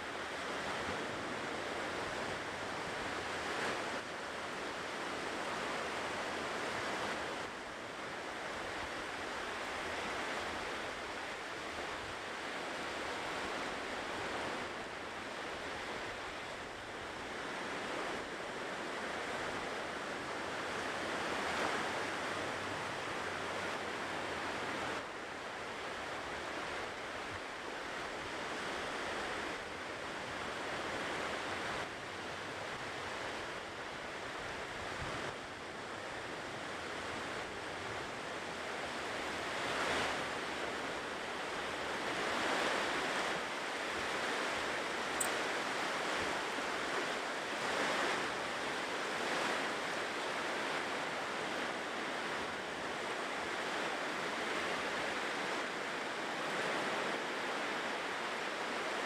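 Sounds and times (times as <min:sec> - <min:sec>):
ocean surf washing onto shore: 0:00.0 - 0:59.0.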